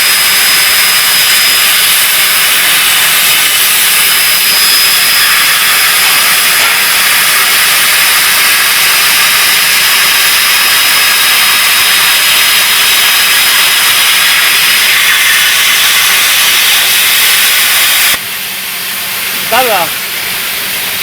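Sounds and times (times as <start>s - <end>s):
plasma torch hissing: 0.0s - 18.2s.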